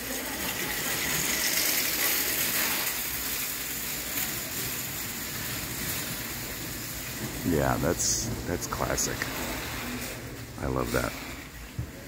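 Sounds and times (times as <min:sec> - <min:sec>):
indoor hall background hiss: 0:00.0 - 0:12.0.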